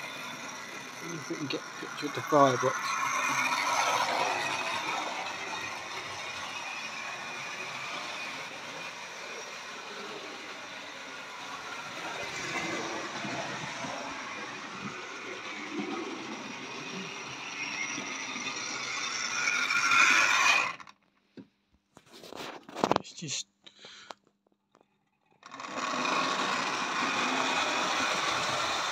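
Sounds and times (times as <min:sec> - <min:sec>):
model train motor whirring: 0:00.0 - 0:21.0, 0:25.2 - 0:28.9
wheels rattling on rails: 0:00.0 - 0:21.0, 0:25.4 - 0:28.9.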